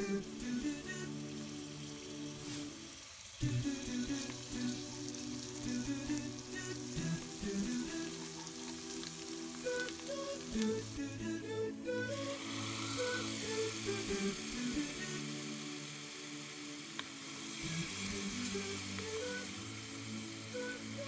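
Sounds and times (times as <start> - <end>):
garlic sizzling in hot oil: 0.0 - 21.0.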